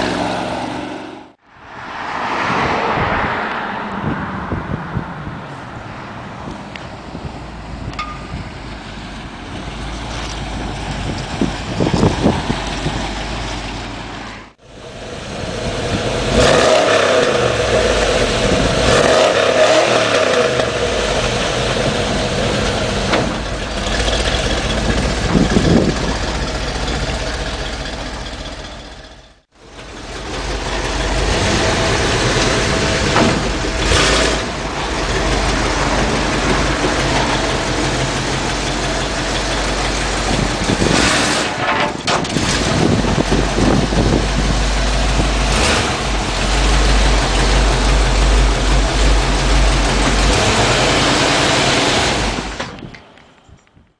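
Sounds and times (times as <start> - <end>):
pickup engine revving: 0.0 - 1.4, 9.4 - 52.8.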